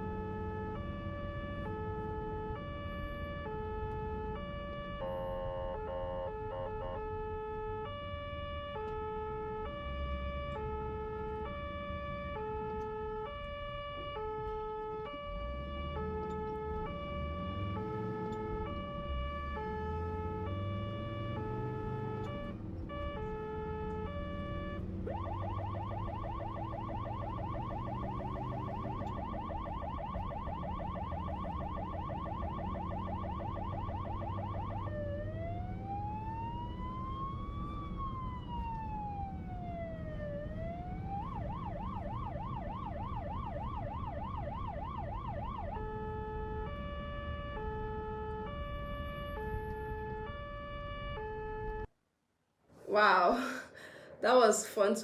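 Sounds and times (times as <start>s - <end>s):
ambulance siren: 0.0s - 51.9s
engine accelerating: 0.0s - 51.9s.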